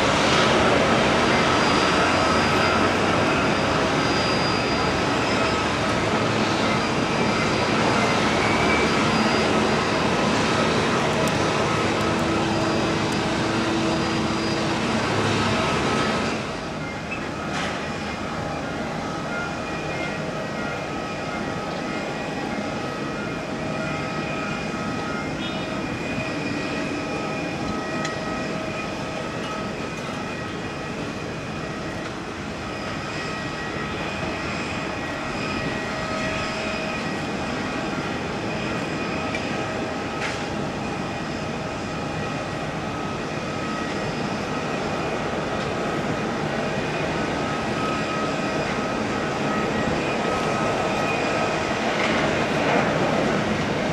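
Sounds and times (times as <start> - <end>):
jet engine whine: 0.0 - 53.9
jet engines roaring: 0.0 - 53.9.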